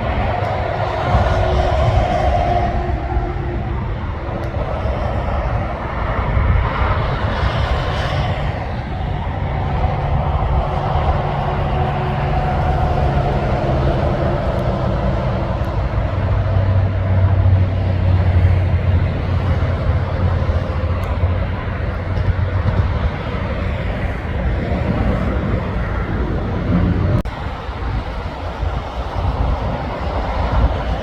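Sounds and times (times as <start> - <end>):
heavy truck diesel engine passing: 0.0 - 31.0.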